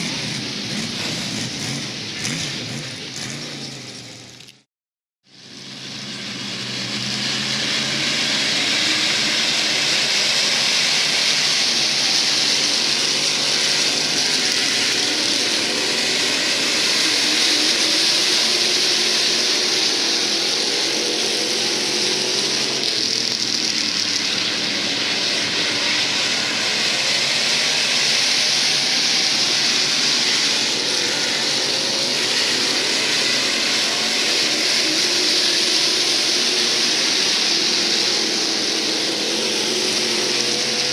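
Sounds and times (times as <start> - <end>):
race car engines roaring: 0.0 - 4.6, 5.3 - 40.9.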